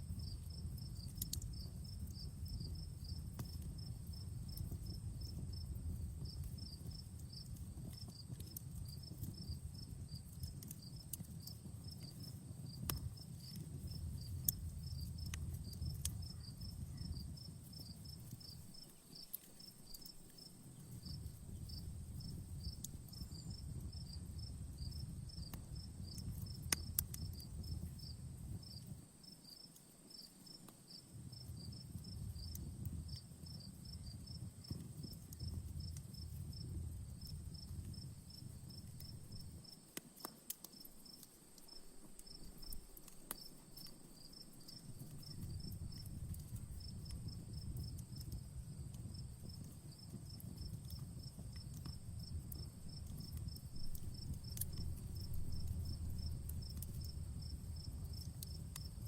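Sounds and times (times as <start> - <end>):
campfire crackling: 0.0 - 59.0
crickets chirping: 0.0 - 59.0.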